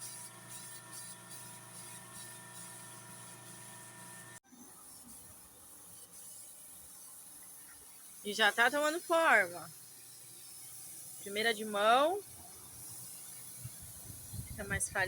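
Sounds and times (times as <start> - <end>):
small motor humming: 0.0 - 15.0.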